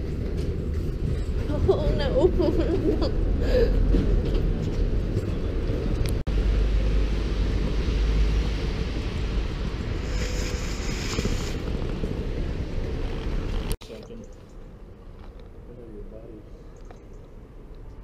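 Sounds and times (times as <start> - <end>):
wind rumbling on microphone: 0.0 - 15.7
traffic noise: 0.0 - 18.0.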